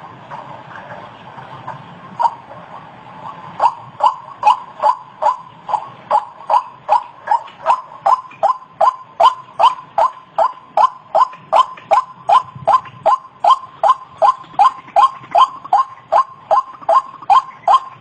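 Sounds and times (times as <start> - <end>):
waterhen harsh repeated call: 2.2 - 2.5, 3.3 - 18.0.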